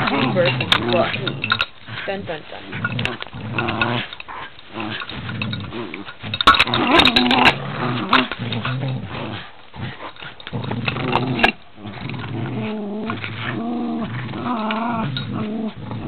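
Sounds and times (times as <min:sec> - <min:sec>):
dogs play-growling: 0:00.0 - 0:16.0.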